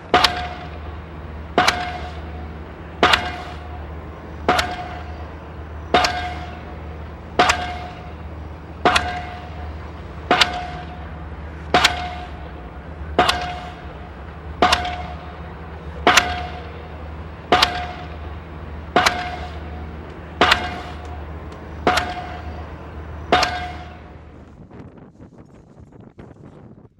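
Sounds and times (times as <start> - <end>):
metal-on-metal clanging strikes: 0.0 - 24.5
steady low hum: 0.0 - 26.5.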